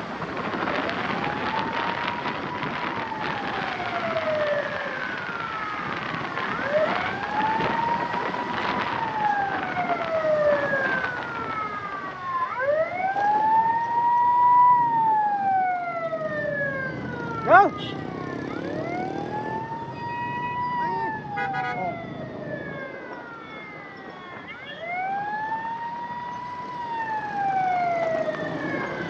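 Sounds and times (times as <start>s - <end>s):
street traffic noise: 0.0s - 29.0s
ambulance siren wailing: 0.1s - 29.0s.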